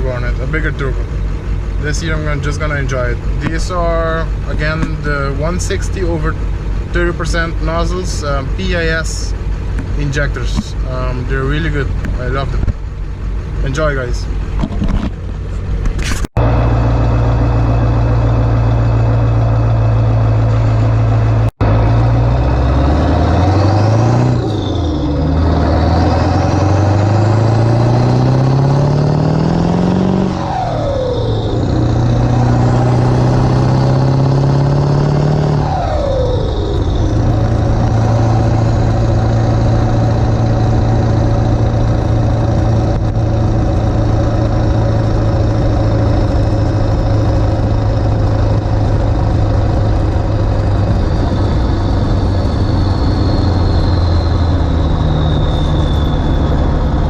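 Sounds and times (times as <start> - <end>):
diesel truck accelerating: 0.0 - 57.0.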